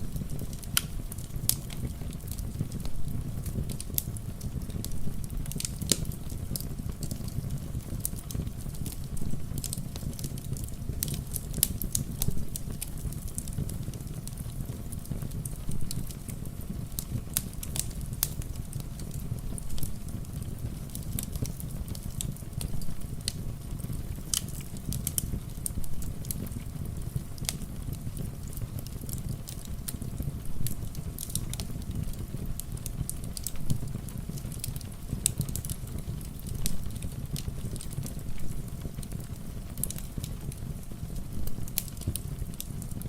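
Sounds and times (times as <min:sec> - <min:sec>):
rain: 0:00.0 - 0:43.0
wood fire crackling: 0:00.0 - 0:43.0.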